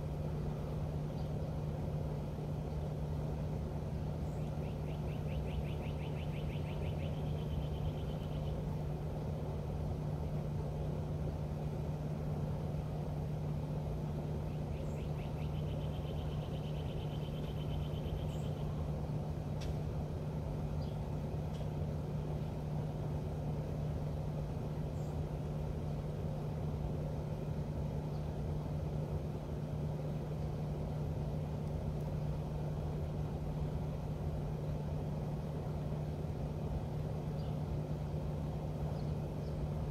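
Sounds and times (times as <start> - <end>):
engine hum and rumble: 0.0 - 39.9.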